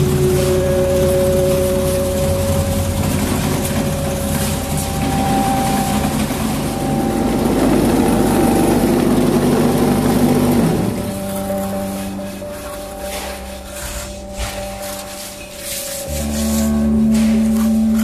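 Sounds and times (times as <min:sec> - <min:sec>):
vibrating table humming: 0:00.0 - 0:18.0.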